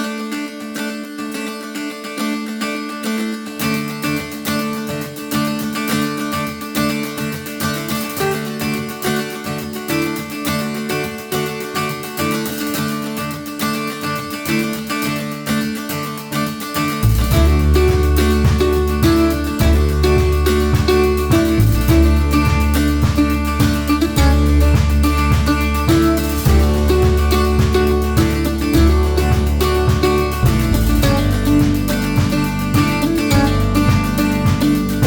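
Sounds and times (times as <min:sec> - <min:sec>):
acoustic guitar music: 0:00.0 - 0:35.0.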